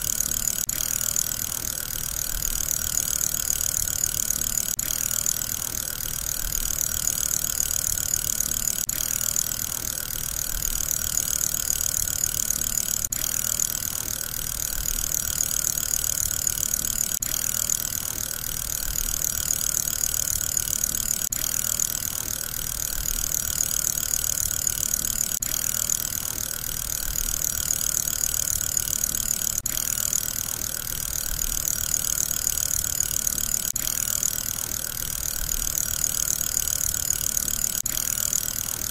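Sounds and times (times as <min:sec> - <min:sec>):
fidget spinner whirring: 0:00.0 - 0:38.9.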